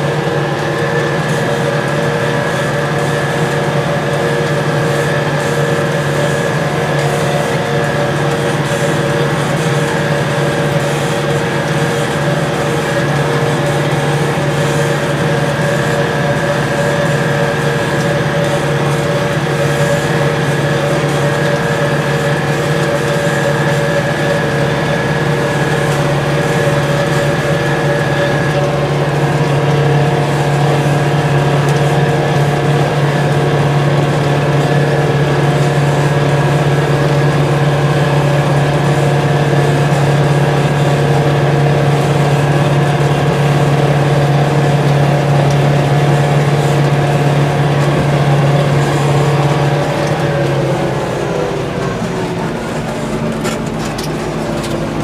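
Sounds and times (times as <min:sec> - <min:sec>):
steady whine: 0:00.0 - 0:55.0
tractor diesel engine drone: 0:00.0 - 0:55.0.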